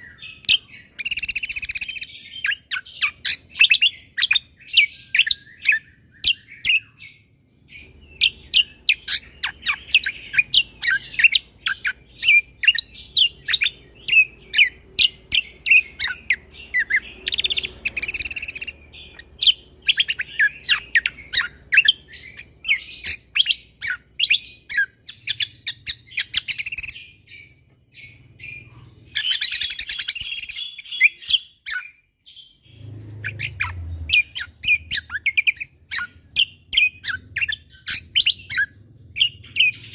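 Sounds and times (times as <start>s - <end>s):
buzzy bird trill: 0.0s - 39.9s
songbird chirping rapidly: 0.0s - 39.9s.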